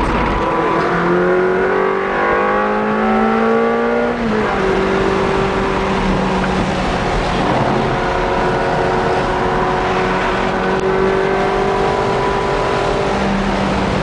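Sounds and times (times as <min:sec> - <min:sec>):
car engine revving in cabin: 0:00.0 - 0:14.0.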